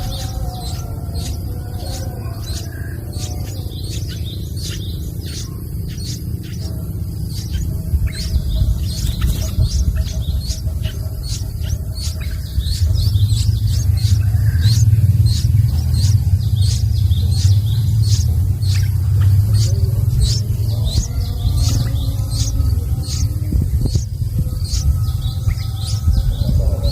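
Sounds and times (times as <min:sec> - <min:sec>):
bird chick chirping: 0:00.0 - 0:26.9
loud low rumble: 0:00.0 - 0:26.9.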